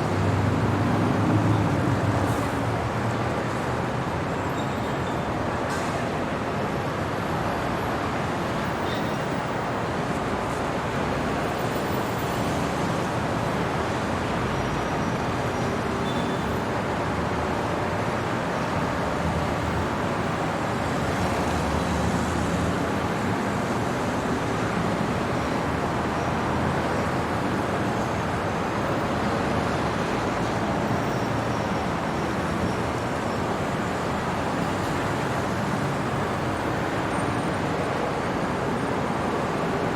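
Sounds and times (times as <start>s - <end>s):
city road traffic: 0.0s - 39.9s.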